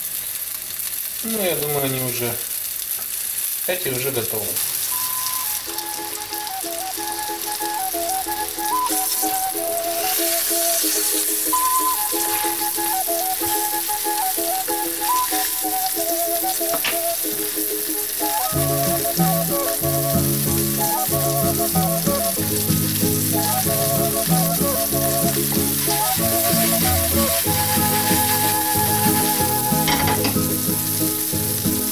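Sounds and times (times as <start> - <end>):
cutlets sizzling in oil: 0.0 - 31.9
background music: 4.9 - 31.9.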